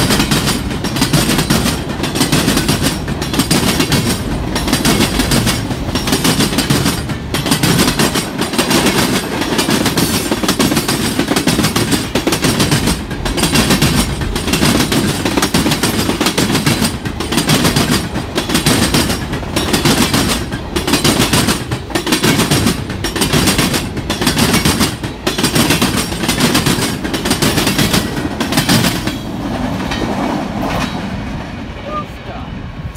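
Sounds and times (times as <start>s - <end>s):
wheels clacking over rail joints: 0.0s - 31.6s
steel wheels rumbling on rail: 0.0s - 32.9s.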